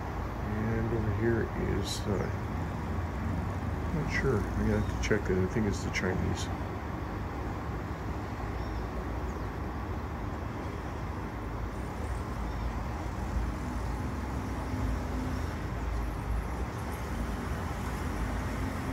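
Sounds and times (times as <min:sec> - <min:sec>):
street traffic rumble: 0:00.0 - 0:18.9.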